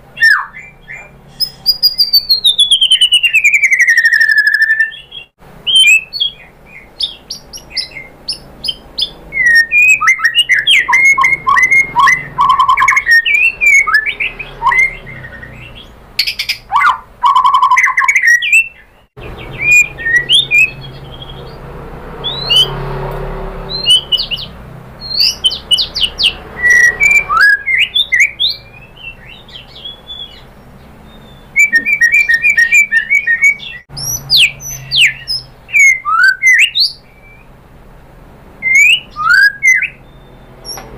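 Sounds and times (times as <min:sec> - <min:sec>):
bird singing whistled phrases and trills: 0:00.2 - 0:21.6, 0:22.2 - 0:22.8, 0:23.7 - 0:37.5, 0:38.6 - 0:40.9.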